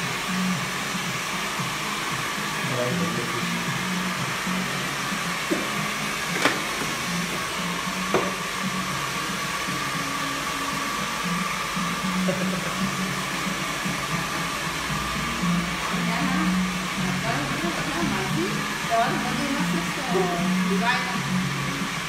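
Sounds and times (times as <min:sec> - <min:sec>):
background music: 0:00.0 - 0:22.0
hair dryer running: 0:00.0 - 0:22.0.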